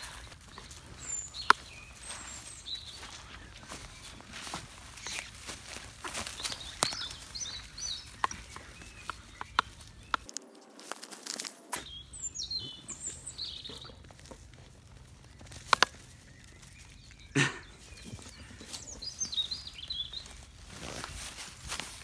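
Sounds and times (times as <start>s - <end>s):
birds chirping: 0.0s - 22.0s
dog digging in dry grass: 0.0s - 22.0s.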